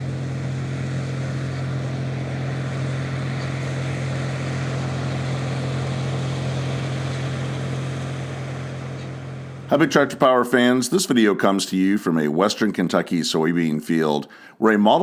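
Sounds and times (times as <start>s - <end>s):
combine harvester running: 0.0s - 12.5s.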